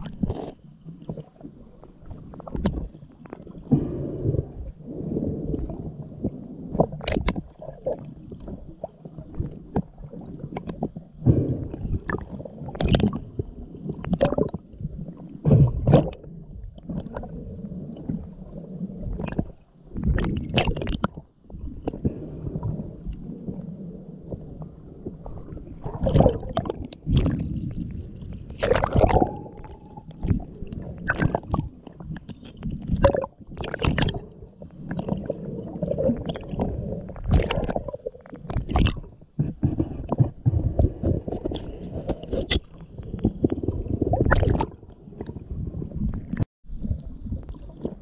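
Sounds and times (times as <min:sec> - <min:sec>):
muffled underwater sloshing: 0:00.0 - 0:48.0.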